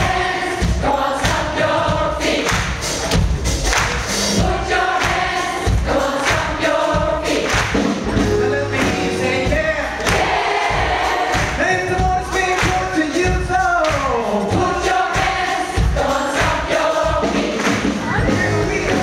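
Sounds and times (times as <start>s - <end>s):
band playing: 0.0s - 19.0s
gospel choir singing: 0.0s - 19.0s
steady drum beat: 0.0s - 19.0s.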